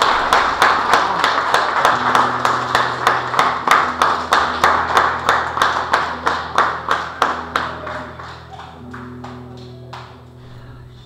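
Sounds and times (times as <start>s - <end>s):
audience clapping in unison: 0.0s - 10.6s.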